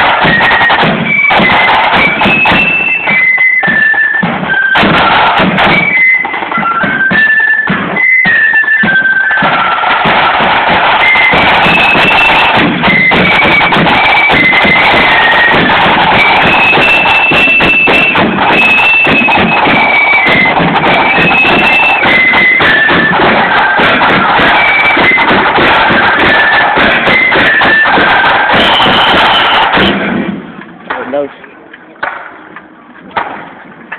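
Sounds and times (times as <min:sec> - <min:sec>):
flute melody: 0:00.0 - 0:30.2
snare drum strokes: 0:00.0 - 0:31.2.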